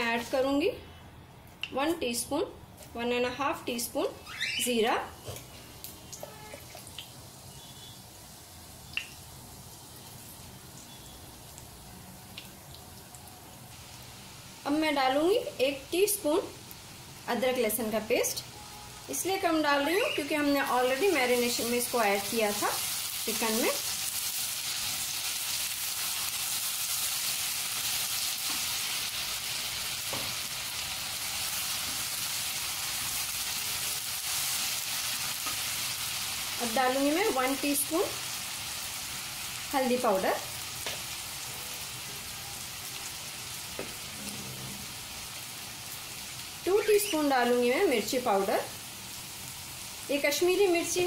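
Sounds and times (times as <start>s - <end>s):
seeds sizzling in hot oil: 5.5s - 51.0s.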